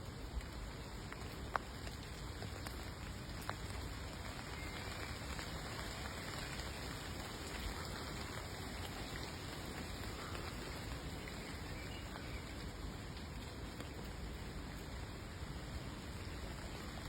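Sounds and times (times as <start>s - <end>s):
rain falling: 0.0s - 17.0s
water dripping: 0.3s - 17.0s.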